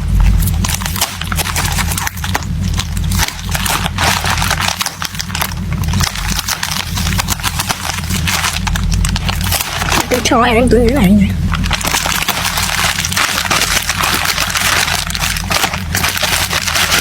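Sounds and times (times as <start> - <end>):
steady low hum: 0.0 - 17.0
packaging crinkling: 0.2 - 10.4, 11.4 - 17.0.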